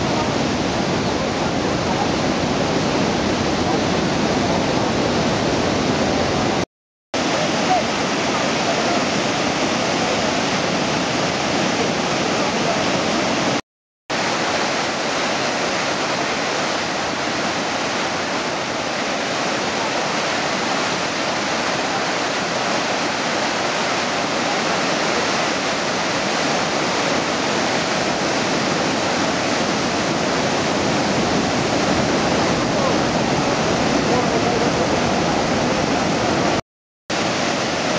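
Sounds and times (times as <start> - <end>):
floodwater rushing over spillway: 0.0 - 6.6, 7.2 - 37.9.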